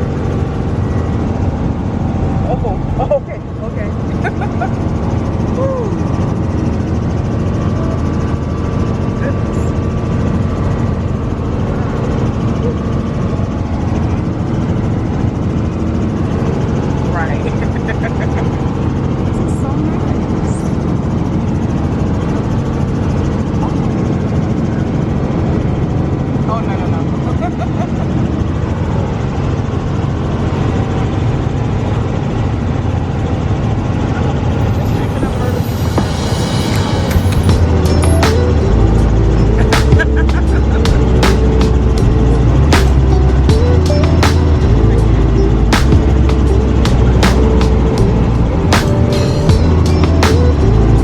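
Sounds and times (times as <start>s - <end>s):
helicopter engine and rotor drone: 0.0s - 50.9s.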